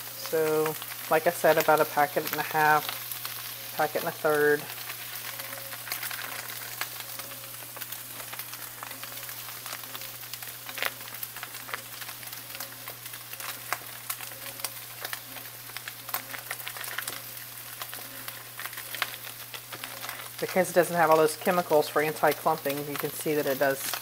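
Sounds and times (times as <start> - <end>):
meat sizzling in a skillet: 0.0 - 24.0.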